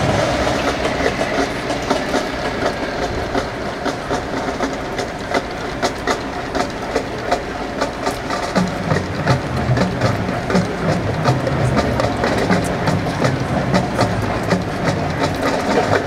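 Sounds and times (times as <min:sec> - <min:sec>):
marching band drum taps: 0:00.0 - 0:16.0
stadium crowd noise: 0:00.0 - 0:16.0.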